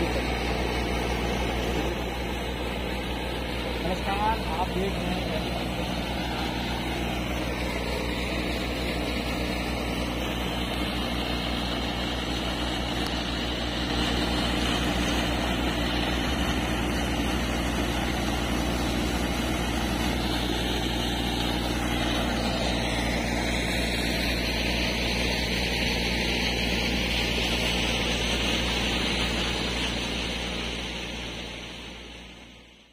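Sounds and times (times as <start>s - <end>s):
slurry gushing from pipe: 0.0s - 31.9s
engine running: 0.0s - 32.9s.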